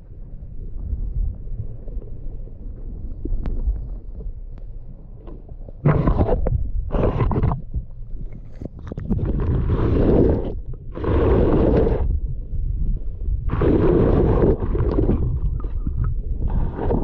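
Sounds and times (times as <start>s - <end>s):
steady low rumble: 0.0s - 17.0s
water splashing and sloshing: 0.1s - 17.0s.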